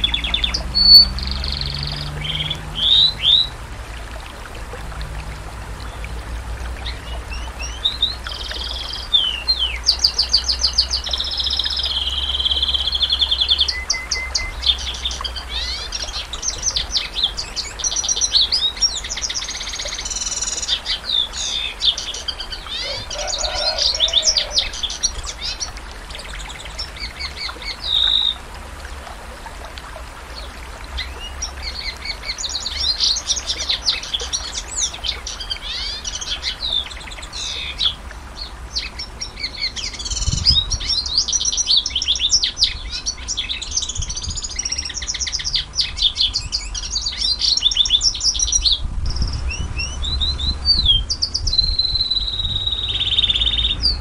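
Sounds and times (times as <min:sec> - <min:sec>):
canary singing trills: 0:00.0 - 0:03.6, 0:06.8 - 0:28.4, 0:30.4 - 0:54.0.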